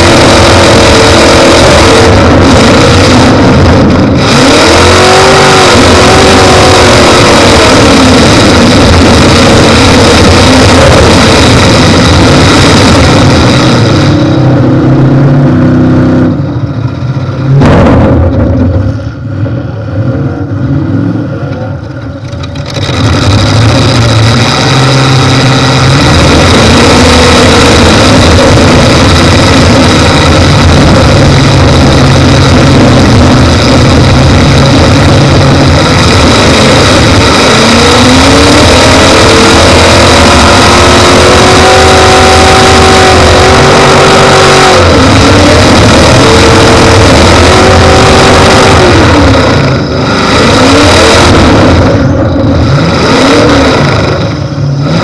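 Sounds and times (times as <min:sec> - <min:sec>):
car engine running loud: 0:00.0 - 0:55.0
whine climbing in pitch: 0:00.0 - 0:55.0.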